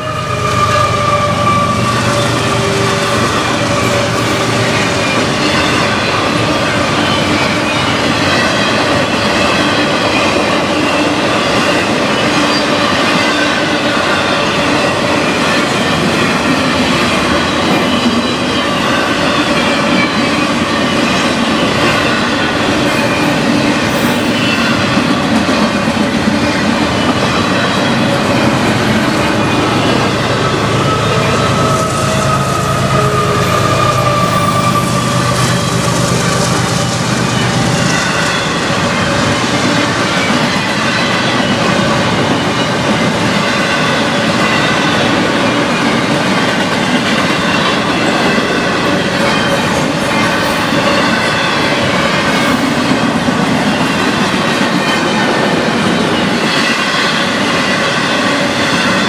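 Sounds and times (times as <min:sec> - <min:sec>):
high wheel squeal: 0:00.0 - 0:46.2, 0:47.1 - 0:59.0
train wheels rumbling on rails: 0:00.0 - 0:59.0.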